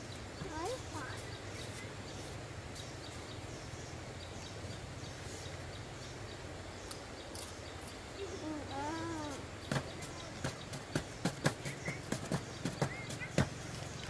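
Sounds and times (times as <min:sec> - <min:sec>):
faint high bird-like chirps: 0:00.0 - 0:14.0.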